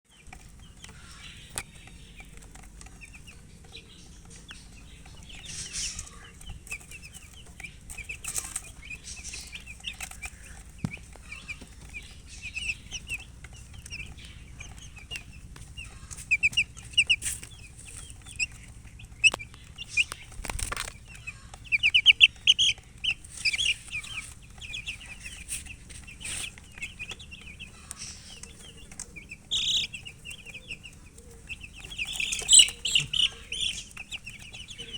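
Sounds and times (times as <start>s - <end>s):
baby chicks peeping: 0.0s - 34.9s
rustling: 0.1s - 34.9s.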